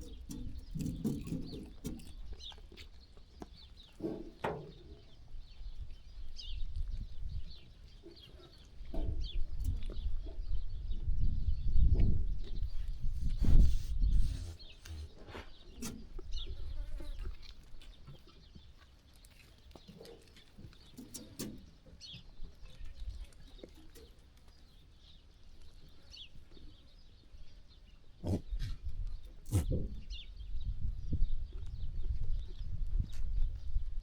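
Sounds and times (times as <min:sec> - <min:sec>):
sheep moving and grazing: 0:00.0 - 0:34.0.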